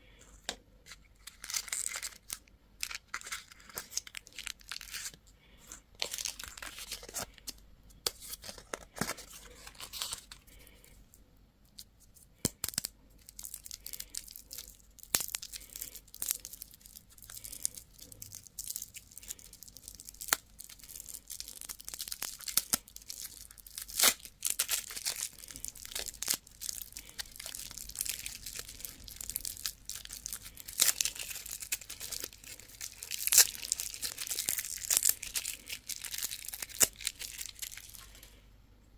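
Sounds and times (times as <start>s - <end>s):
candy wrappers crinkling: 0.2s - 38.4s.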